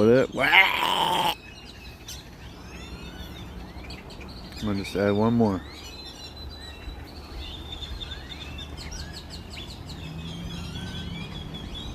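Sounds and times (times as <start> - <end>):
birds chirping and calling: 0.0 - 11.9.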